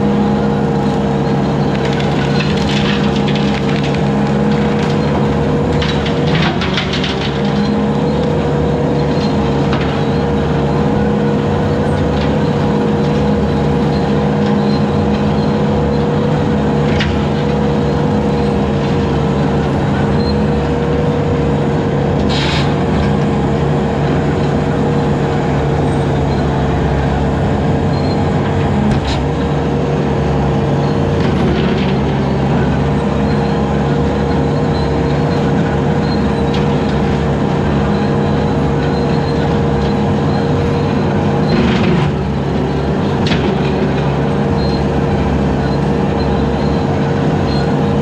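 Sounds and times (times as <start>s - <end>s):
skid steer engine running: 0.0s - 48.0s.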